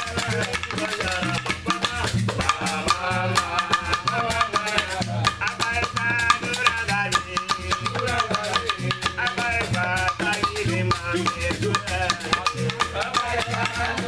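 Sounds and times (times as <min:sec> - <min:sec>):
drums and rattles: 0:00.0 - 0:14.0
person singing: 0:00.0 - 0:14.0.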